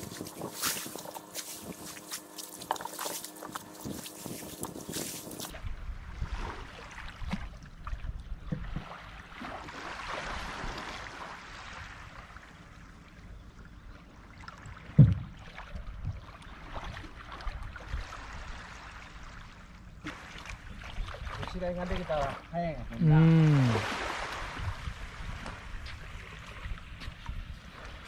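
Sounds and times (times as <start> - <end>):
seawater lapping: 0.0 - 28.0.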